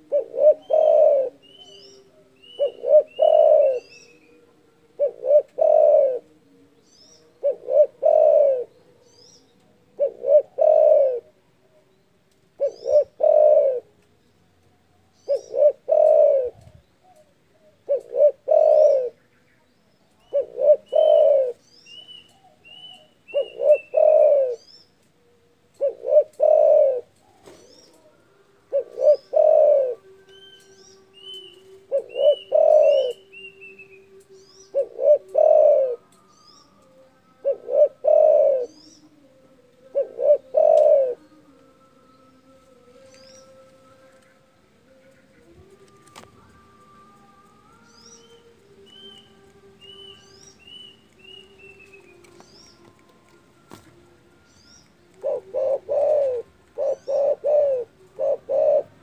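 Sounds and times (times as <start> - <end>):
dove cooing: 0.0 - 19.4, 20.0 - 41.9, 42.6 - 59.0.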